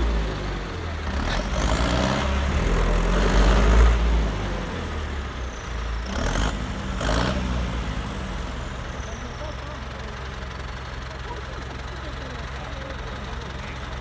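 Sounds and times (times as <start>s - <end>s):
diesel engines rumbling under load: 0.0s - 14.0s.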